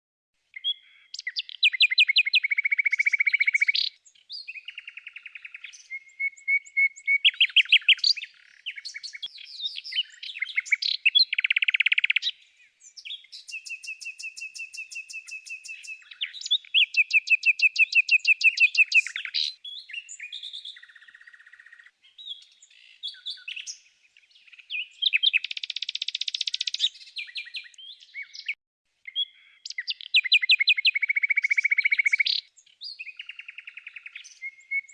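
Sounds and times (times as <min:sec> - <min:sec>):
songbird trilling and chirping: 0:00.5 - 0:34.9.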